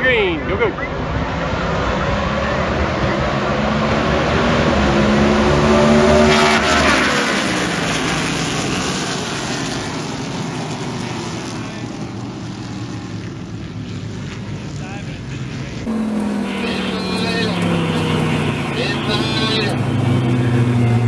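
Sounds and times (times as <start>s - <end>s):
racing cars passing at full throttle: 0.0s - 21.0s.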